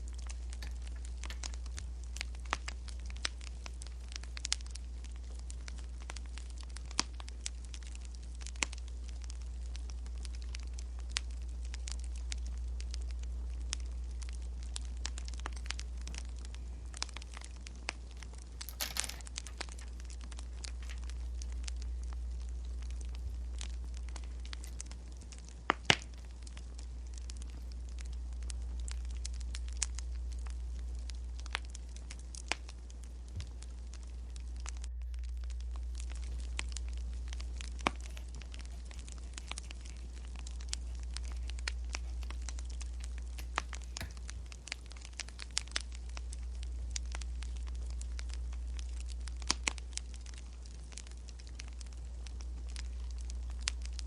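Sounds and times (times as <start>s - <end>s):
low hum: 0.0s - 54.0s
wood fire crackling: 0.0s - 54.0s.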